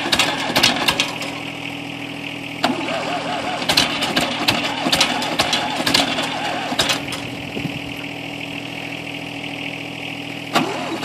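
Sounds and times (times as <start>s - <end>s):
diesel engine knocking and idling: 0.0s - 11.0s.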